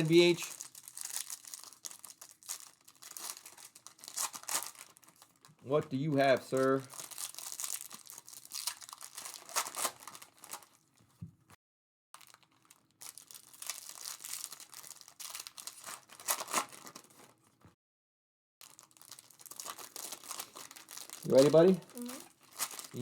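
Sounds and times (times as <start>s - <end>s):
plastic packaging crinkling: 0.0s - 10.8s, 12.2s - 17.4s, 18.6s - 23.0s.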